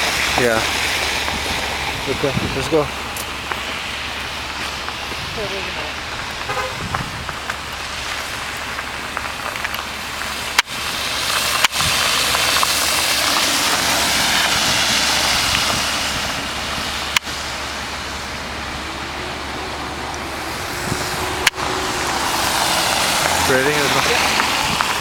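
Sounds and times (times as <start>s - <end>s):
cars going by: 0.0s - 25.0s.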